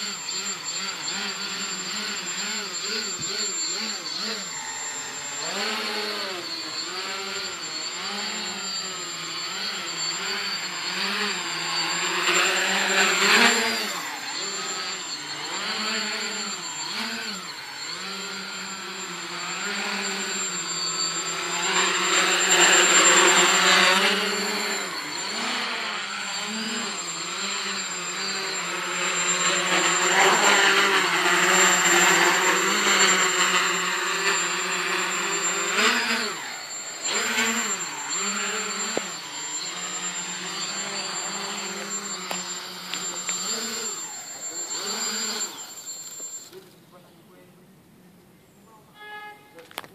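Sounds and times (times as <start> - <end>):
quadcopter propellers whirring: 0.0 - 47.4.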